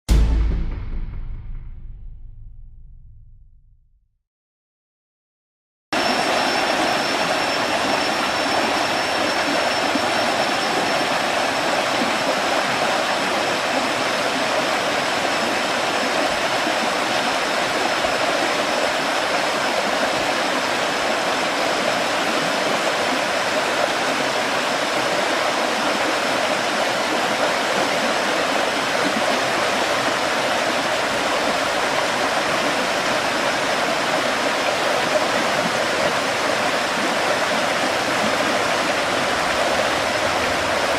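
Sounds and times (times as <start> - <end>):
waterfall rushing: 6.0 - 40.9.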